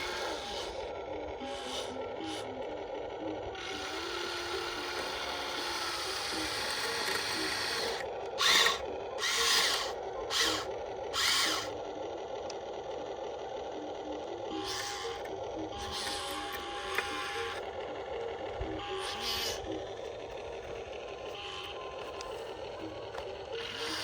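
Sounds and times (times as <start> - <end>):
small electric motors whirring: 0.0 - 24.0.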